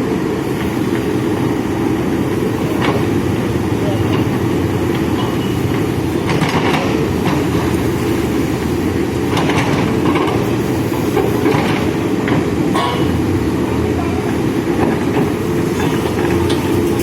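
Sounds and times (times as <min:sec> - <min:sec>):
backhoe diesel engine running: 0:00.0 - 0:17.0.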